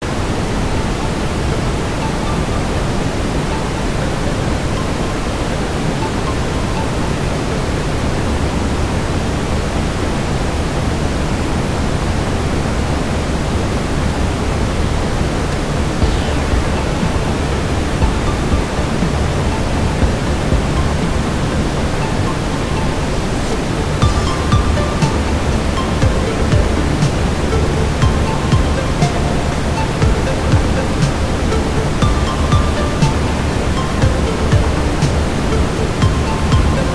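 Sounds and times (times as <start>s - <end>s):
deep brown noise hiss: 0.1s - 36.9s.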